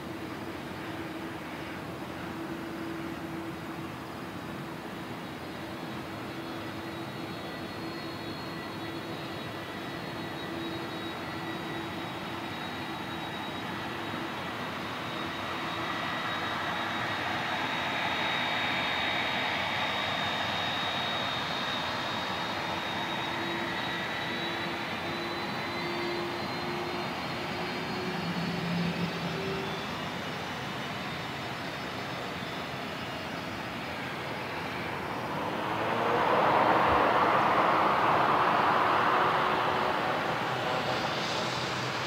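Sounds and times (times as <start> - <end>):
jet engines taxiing: 0.0 - 42.0.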